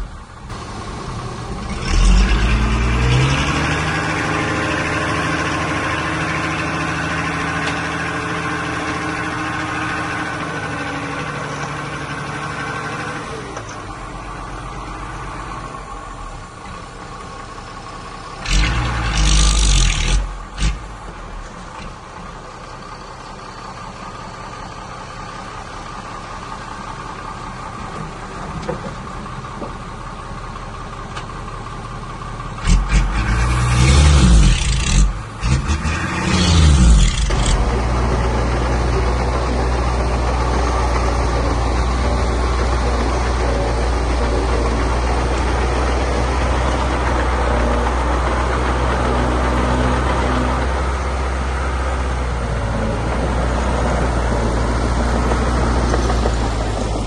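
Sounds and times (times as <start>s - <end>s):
heavy diesel engine revving: 0.0s - 22.2s, 32.1s - 57.0s.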